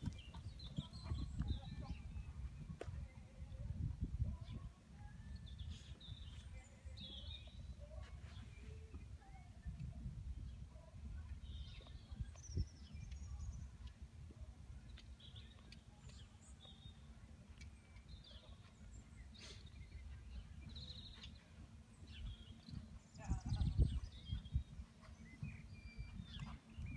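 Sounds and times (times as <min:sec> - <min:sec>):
wind rumble on microphone: 0:00.0 - 0:17.0, 0:18.8 - 0:26.9.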